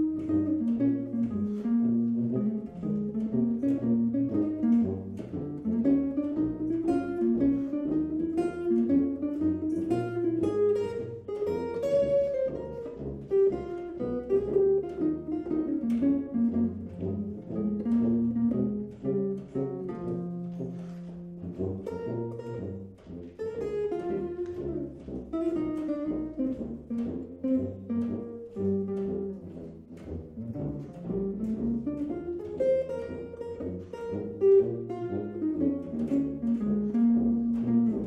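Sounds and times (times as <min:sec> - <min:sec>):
electric guitar jazz blues lines: 0:00.0 - 0:38.0
low bass line: 0:00.0 - 0:38.0.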